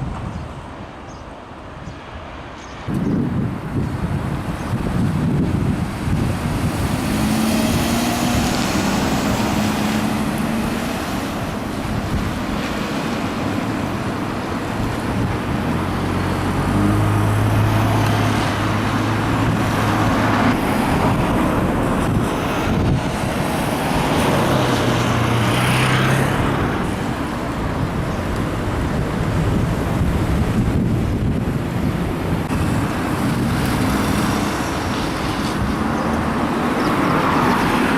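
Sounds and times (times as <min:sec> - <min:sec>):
wind rushing over microphone: 0:00.0 - 0:37.9
passing vehicle engine hums: 0:04.3 - 0:37.9.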